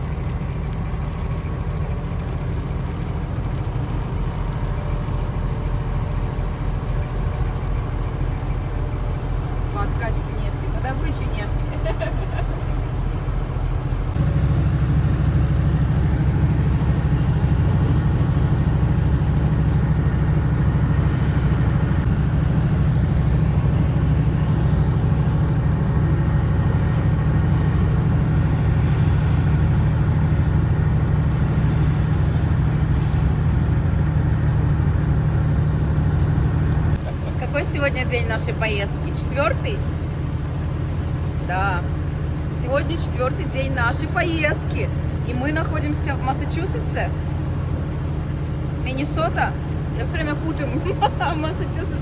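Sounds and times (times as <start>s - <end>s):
road noise: 0.0s - 52.0s
truck engine rumble: 0.0s - 52.0s.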